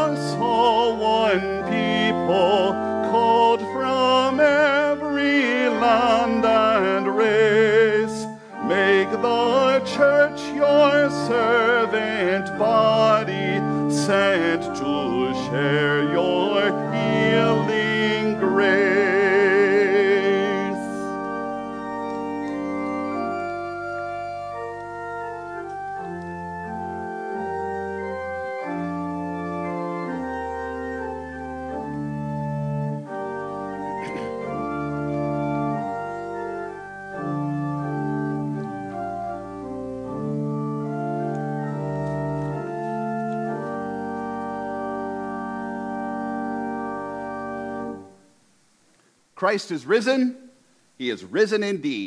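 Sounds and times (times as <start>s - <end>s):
organ pedal bass notes: 0.0s - 48.2s
church organ chords: 0.0s - 48.4s.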